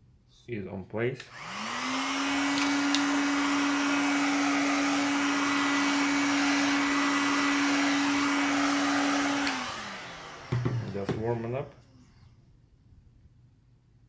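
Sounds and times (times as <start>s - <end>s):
heat gun blowing: 1.2s - 12.5s.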